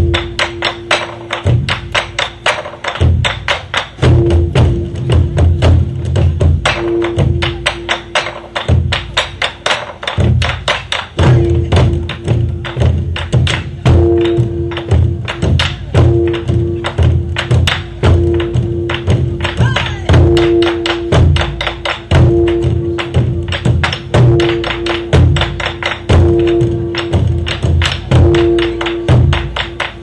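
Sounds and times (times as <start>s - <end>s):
drum ensemble fast rhythm: 0.0s - 30.0s.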